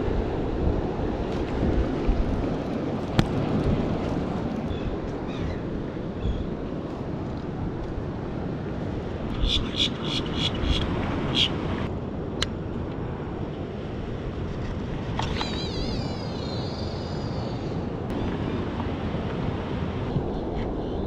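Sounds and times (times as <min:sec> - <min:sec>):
ocean surf: 0:00.0 - 0:20.8
wind on microphone: 0:00.0 - 0:21.0.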